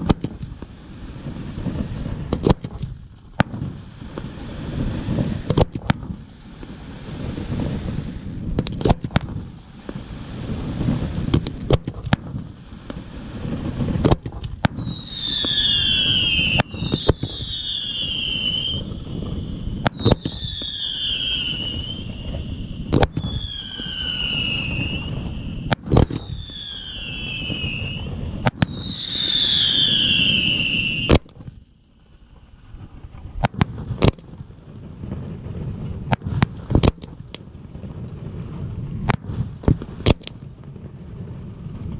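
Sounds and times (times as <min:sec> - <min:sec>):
falling firework whistles: 0:00.0 - 0:34.4
fireworks bangs: 0:00.0 - 0:41.9.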